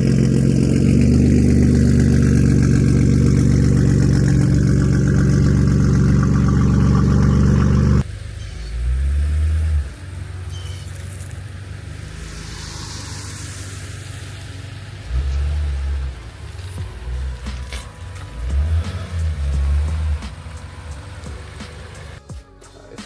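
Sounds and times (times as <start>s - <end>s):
car engine idling: 0.0s - 22.2s
low rumble: 0.0s - 22.2s.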